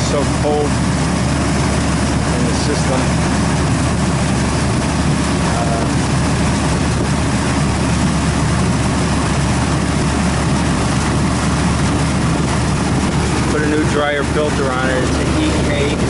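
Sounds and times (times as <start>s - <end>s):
compressor and fan humming: 0.0s - 16.0s.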